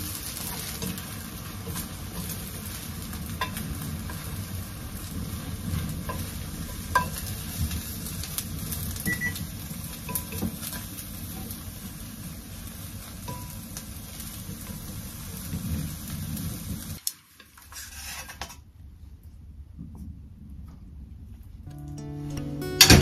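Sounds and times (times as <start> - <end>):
eggs sizzling in a wok: 0.0 - 18.5.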